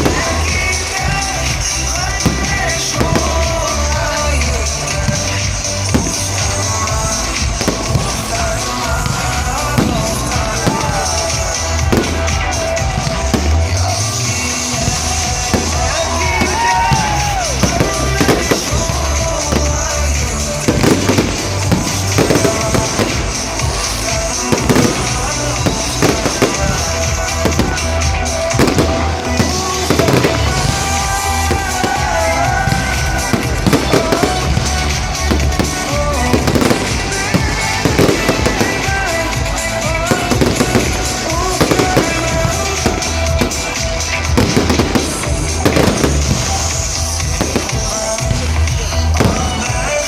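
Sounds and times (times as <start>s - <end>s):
fireworks bangs and crackles: 0.0s - 50.0s
music playing: 0.0s - 50.0s.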